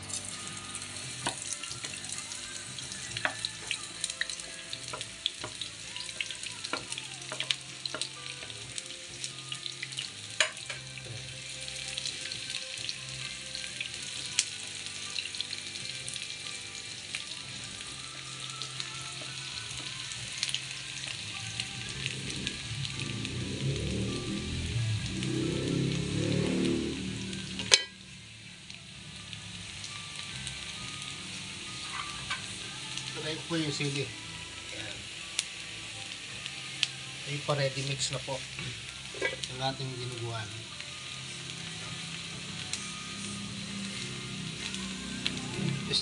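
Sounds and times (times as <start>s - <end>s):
oil popping and crackling: 0.0s - 46.0s
oil sizzling in a pan: 0.0s - 46.0s.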